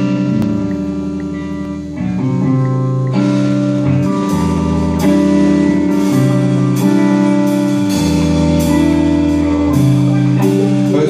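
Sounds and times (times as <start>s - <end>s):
band with guitars and drums: 0.0s - 11.0s.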